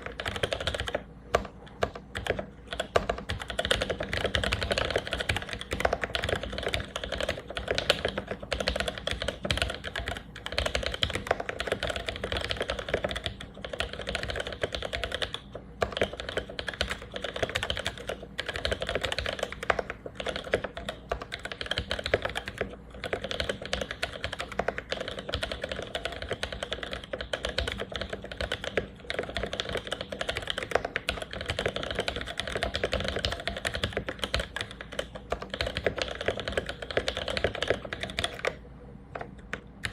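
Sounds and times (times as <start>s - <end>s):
mechanical keyboard typing: 0.0s - 38.6s, 39.2s - 39.9s.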